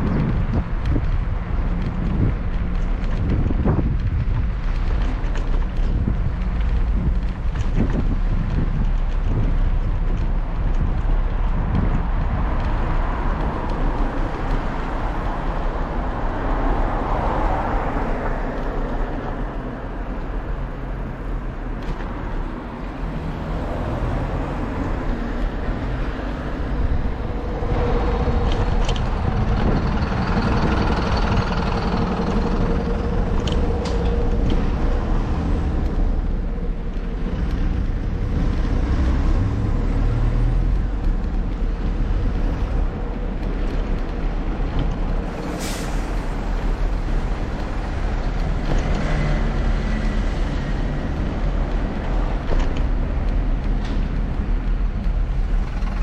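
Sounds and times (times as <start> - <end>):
bicycle road noise: 0.0 - 56.0
wind rumbling on microphone: 0.0 - 56.0.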